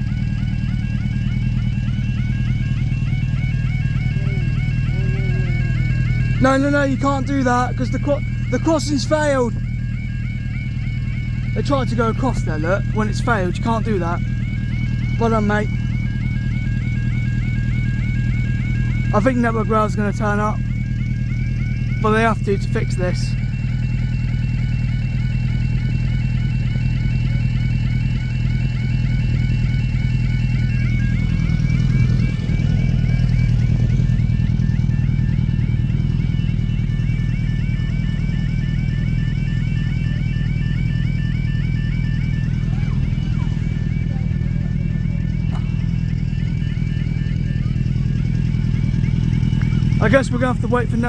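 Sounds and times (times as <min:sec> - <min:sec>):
idling traffic rumble: 0:00.0 - 0:51.0
level crossing warning alarm: 0:00.0 - 0:51.0.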